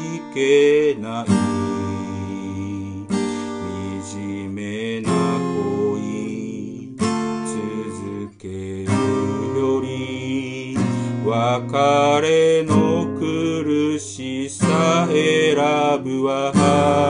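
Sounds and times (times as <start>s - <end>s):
acoustic guitar chords ringing: 0.0s - 17.0s.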